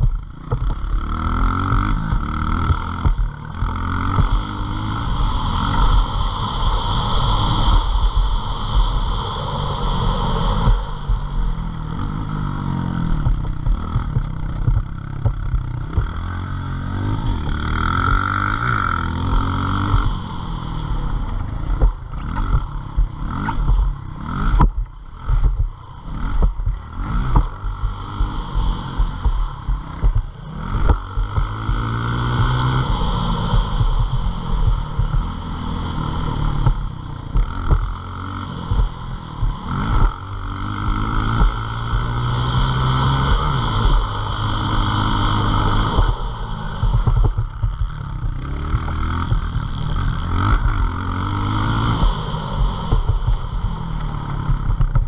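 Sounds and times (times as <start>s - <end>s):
pit bike engine revving: 0.0s - 55.0s.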